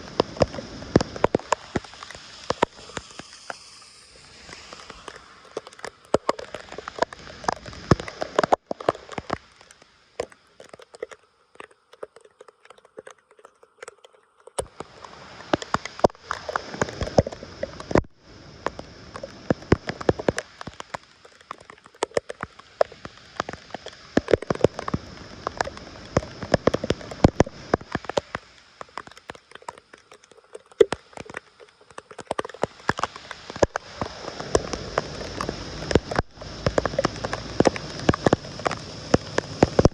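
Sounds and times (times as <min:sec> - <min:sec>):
sharp clicks and crackles: 0:00.0 - 0:39.9
water splashing and dripping: 0:00.0 - 0:39.9.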